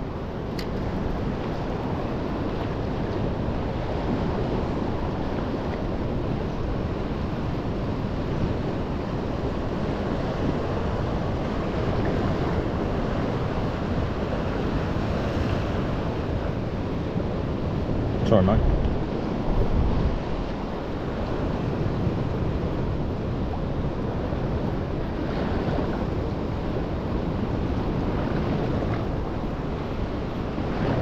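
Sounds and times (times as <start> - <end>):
sea waves and surf: 0.0 - 31.0
wind noise on microphone: 0.0 - 31.0.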